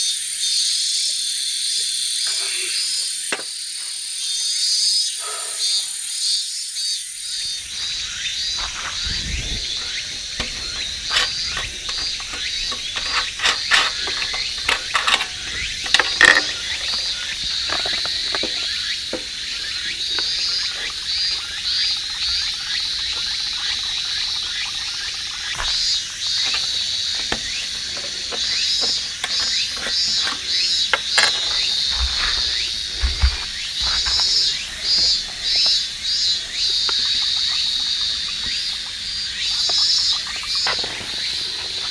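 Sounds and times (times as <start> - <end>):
insects chirping: 6.6 - 41.9.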